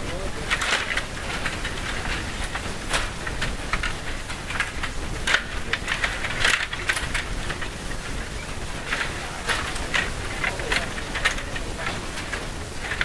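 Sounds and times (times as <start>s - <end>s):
sharp plastic clacks: 0.1s - 13.0s.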